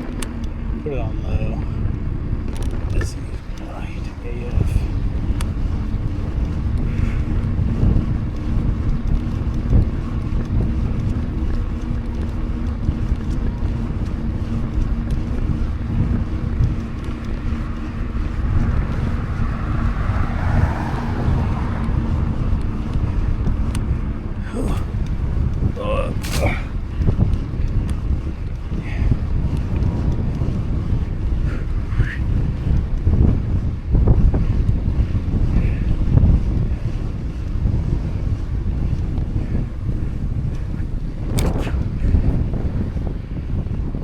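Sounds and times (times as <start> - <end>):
bike tyres rolling on pavement: 0.0 - 44.0
steady low hum: 0.0 - 44.0
wind rushing over microphone: 0.0 - 44.0.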